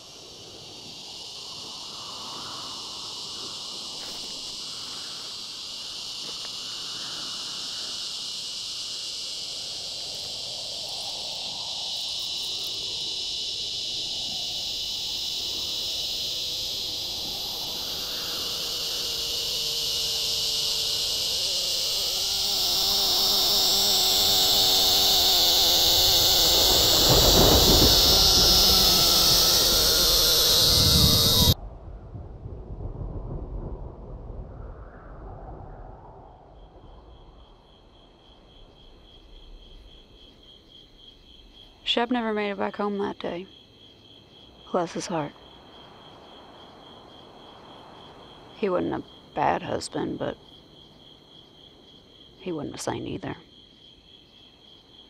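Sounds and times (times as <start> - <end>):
insects buzzing: 0.0 - 31.6, 36.4 - 55.0.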